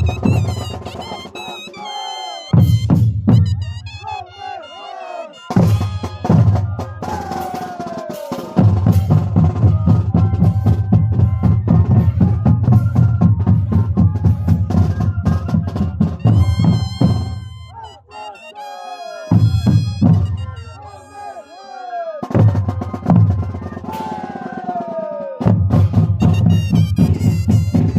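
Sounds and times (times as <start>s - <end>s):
cane flutes playing: 0.0s - 7.5s, 9.0s - 24.6s, 26.2s - 27.9s
drums beating fast rhythm: 0.0s - 18.6s, 19.2s - 27.9s.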